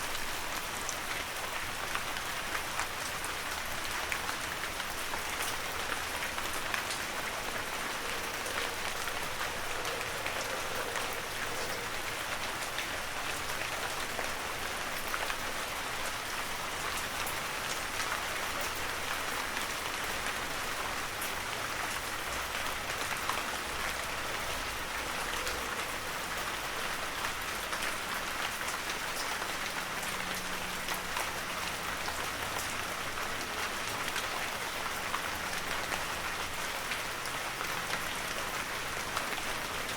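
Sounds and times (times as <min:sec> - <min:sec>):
raindrops pattering on surfaces: 0:00.0 - 0:39.9.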